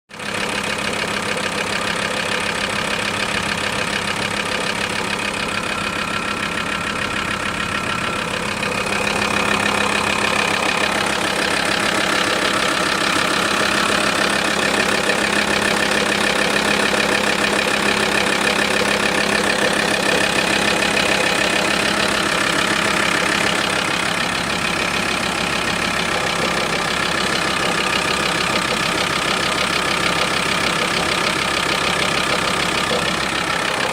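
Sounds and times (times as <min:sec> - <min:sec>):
diesel engine idling: 0:00.1 - 0:33.9
mechanical engine noise: 0:01.0 - 0:33.9.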